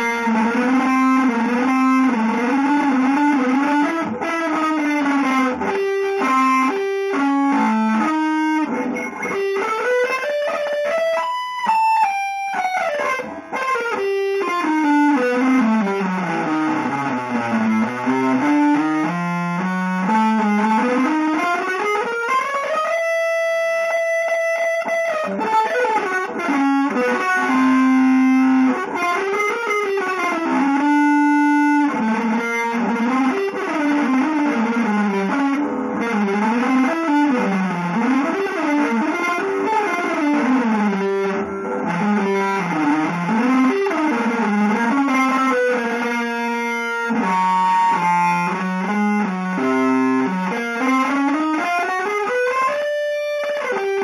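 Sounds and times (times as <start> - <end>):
electric guitar with effects: 0.0 - 54.0.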